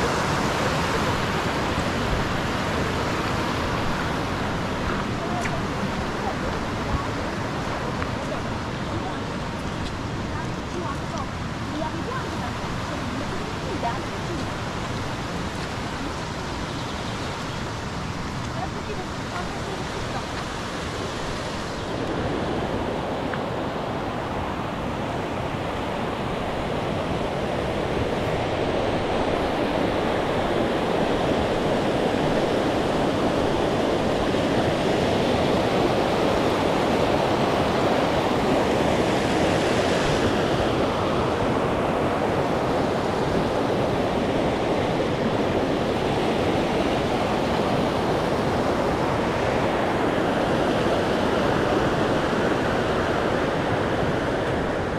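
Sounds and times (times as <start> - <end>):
rushing water roar: 0.0 - 54.9.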